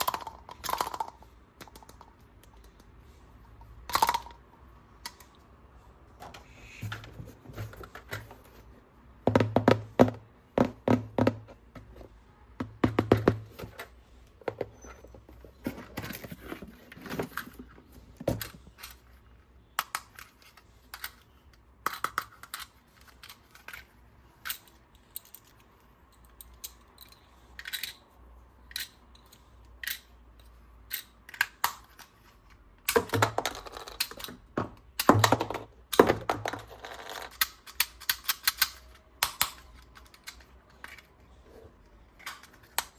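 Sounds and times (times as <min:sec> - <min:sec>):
plastic toys clicking and rustling: 0:00.0 - 0:05.4, 0:13.0 - 0:42.9.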